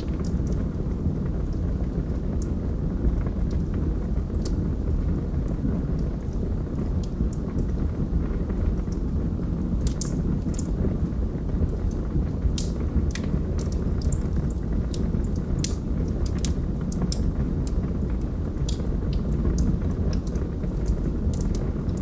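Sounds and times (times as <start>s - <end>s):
burning wood crackling and popping: 0.0s - 22.0s
fire roaring: 0.0s - 22.0s.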